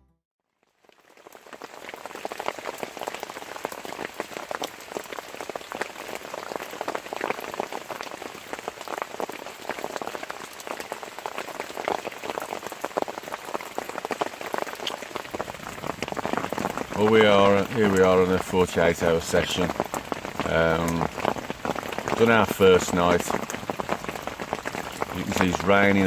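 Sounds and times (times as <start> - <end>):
heavy rain falling: 0.8 - 26.0.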